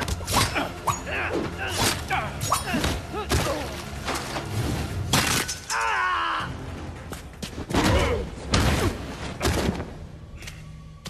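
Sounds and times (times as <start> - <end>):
film score music: 0.0 - 11.0.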